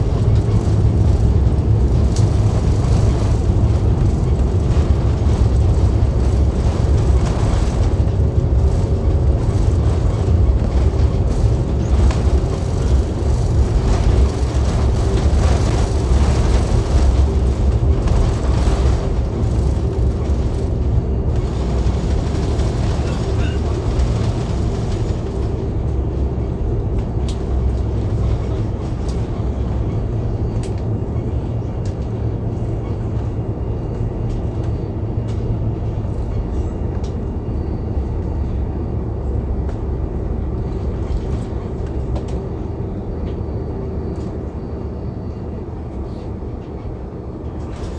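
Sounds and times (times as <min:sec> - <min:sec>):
airliner cabin rumble on runway: 0:00.0 - 0:47.9
engine and air noise: 0:00.0 - 0:47.9.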